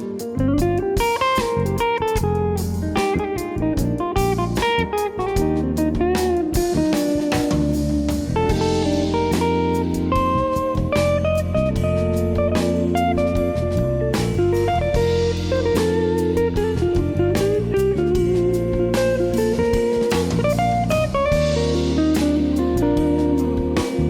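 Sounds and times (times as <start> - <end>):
guitar-led background music: 0.0 - 24.0.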